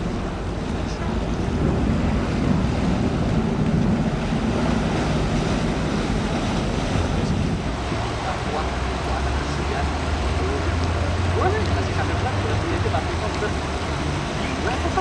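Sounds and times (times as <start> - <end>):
low engine rumble: 0.0 - 15.0
rushing noise: 0.0 - 15.0.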